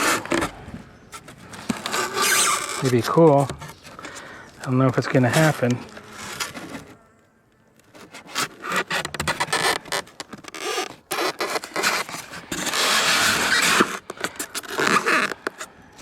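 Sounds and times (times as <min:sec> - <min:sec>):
boards scraping in wooden box: 0:00.0 - 0:07.0, 0:07.8 - 0:16.0.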